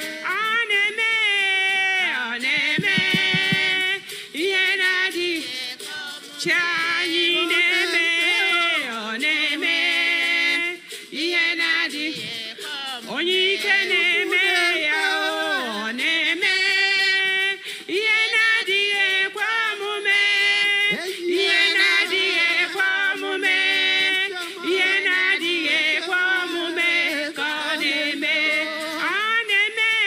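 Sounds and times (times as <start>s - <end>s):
voices singing: 0.0s - 30.0s
woman singing with vibrato: 0.0s - 30.0s.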